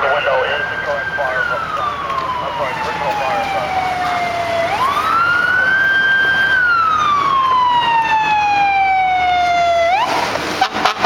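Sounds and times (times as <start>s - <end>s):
fire engine siren wailing: 0.0s - 11.0s.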